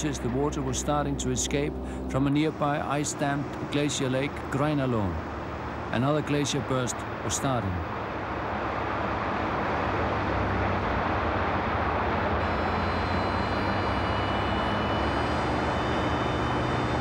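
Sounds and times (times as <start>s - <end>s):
faint high whining tones: 0.0s - 7.9s, 9.1s - 17.0s
aircraft engine drone: 0.0s - 17.0s.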